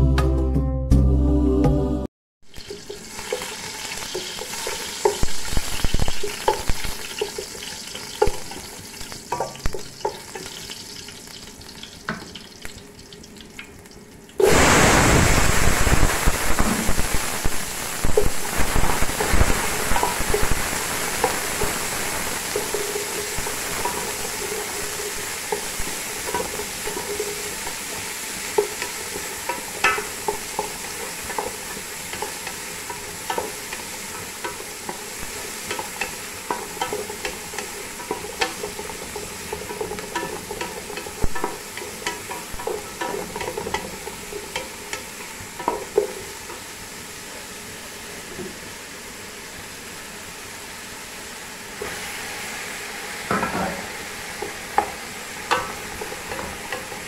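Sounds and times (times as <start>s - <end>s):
garlic and onions sizzling in oil: 2.4s - 57.0s.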